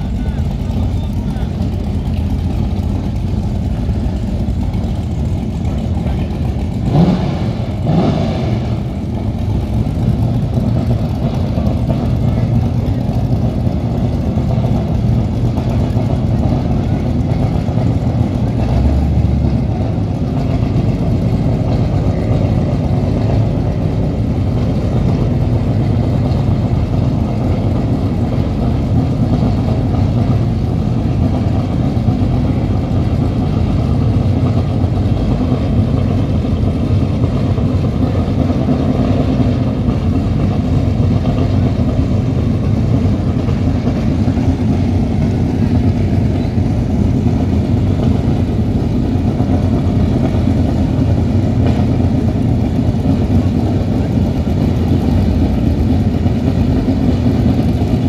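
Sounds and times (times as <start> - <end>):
powerboat engine idling: 0.0 - 58.0.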